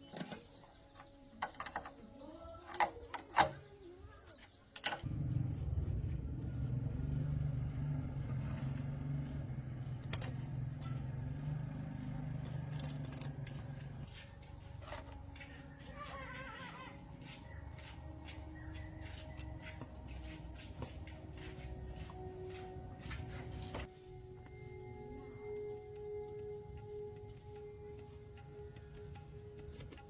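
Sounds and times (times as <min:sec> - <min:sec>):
diesel engine rumbling: 0:05.0 - 0:30.0.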